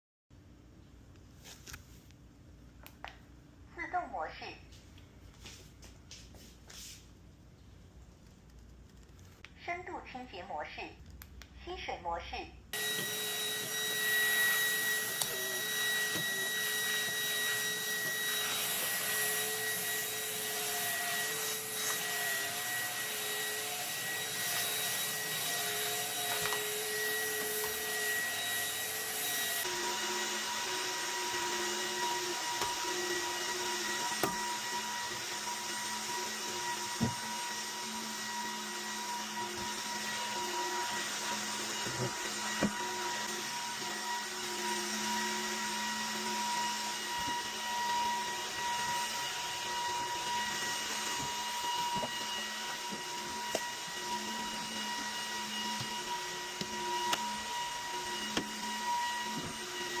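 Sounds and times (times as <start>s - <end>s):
floor washer motor whine and hiss: 4.7s - 7.2s, 12.8s - 60.0s.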